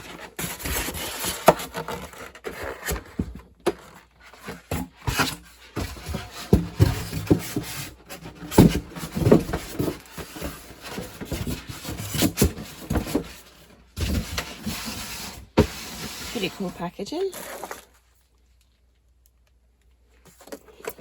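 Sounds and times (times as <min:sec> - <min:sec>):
packaging rubbing and scraping: 0:00.0 - 0:18.3.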